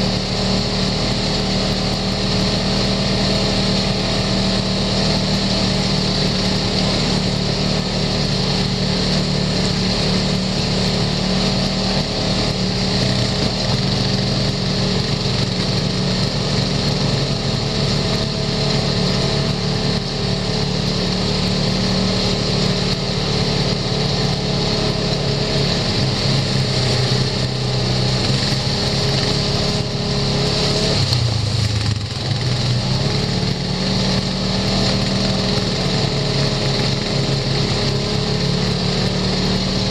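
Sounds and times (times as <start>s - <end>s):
utility vehicle engine running: 0.0s - 39.9s.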